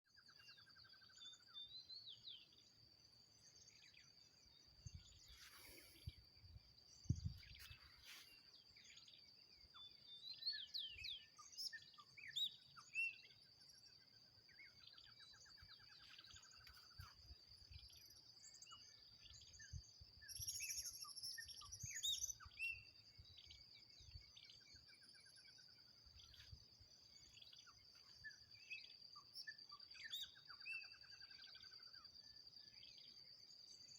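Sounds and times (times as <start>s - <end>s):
birds chirping and trilling: 0.1s - 33.9s.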